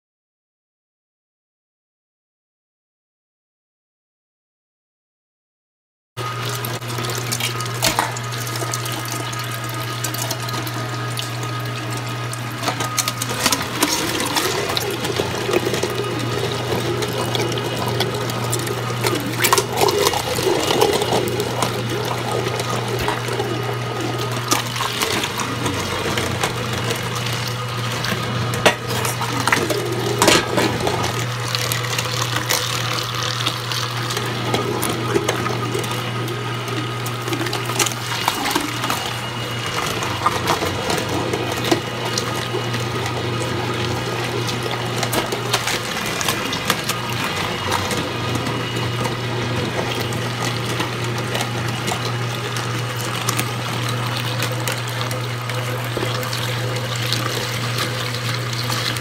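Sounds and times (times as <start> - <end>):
meat grinder motor humming: 6.2 - 59.0.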